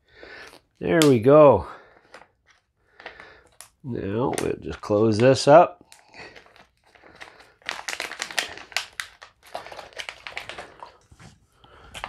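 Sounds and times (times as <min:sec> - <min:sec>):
plastic bag crinkling: 0:01.9 - 0:12.0.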